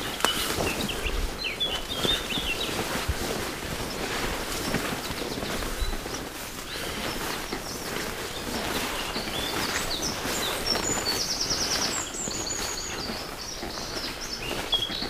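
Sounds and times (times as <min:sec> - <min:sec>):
grass rustling underfoot: 0:00.0 - 0:15.0
songbirds chirping: 0:00.0 - 0:15.0.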